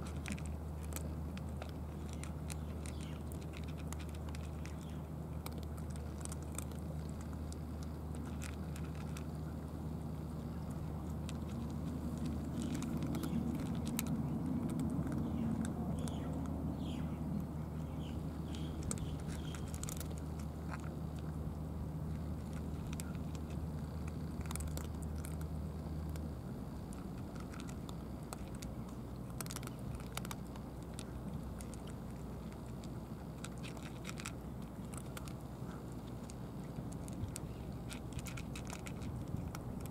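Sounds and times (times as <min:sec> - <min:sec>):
cats crunching dry food: 0:00.0 - 0:39.9
low hum: 0:00.0 - 0:39.9.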